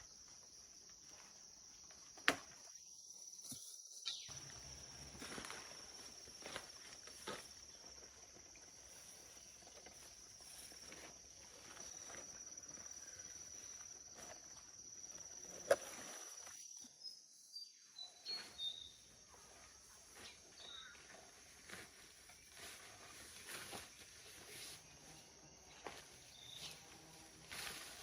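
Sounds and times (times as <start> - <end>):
insect trill: 0.0 - 28.0.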